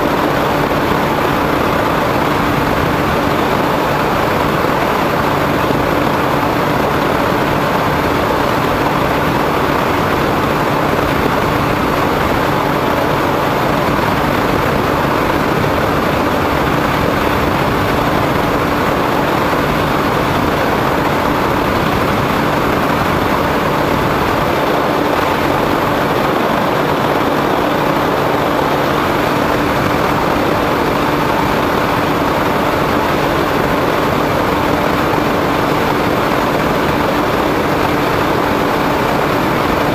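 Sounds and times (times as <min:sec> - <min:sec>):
model plane motor and propeller drone: 0:00.0 - 0:39.9
rushing wind: 0:00.0 - 0:39.9
steady hum: 0:00.0 - 0:39.9.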